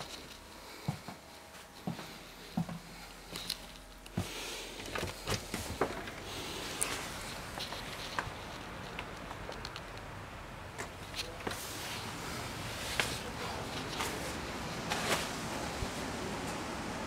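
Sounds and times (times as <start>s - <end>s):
footsteps: 0.0s - 9.7s, 10.8s - 15.4s
steady outdoor hiss: 0.0s - 17.0s.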